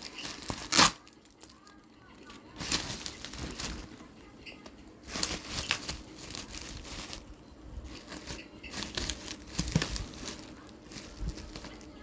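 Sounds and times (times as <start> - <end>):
packaging crinkling and tearing: 0.0 - 4.1, 5.0 - 12.0.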